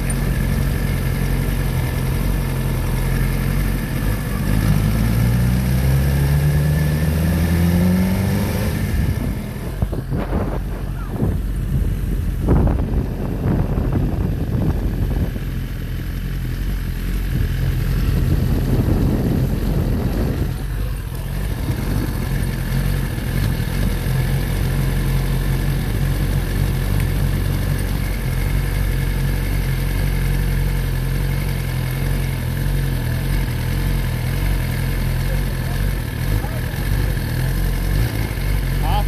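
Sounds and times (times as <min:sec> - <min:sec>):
motorcycle engine running and idling: 0:00.0 - 0:39.0.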